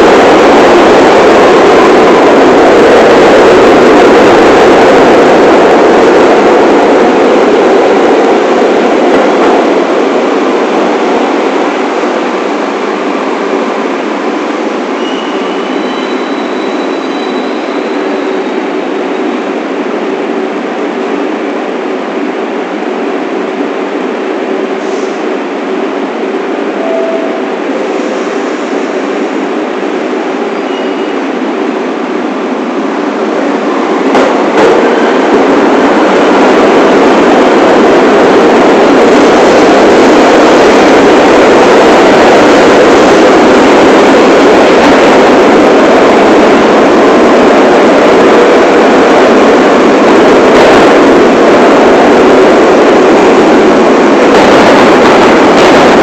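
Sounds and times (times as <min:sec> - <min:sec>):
subway train rumbling on rails: 0:00.0 - 0:56.0.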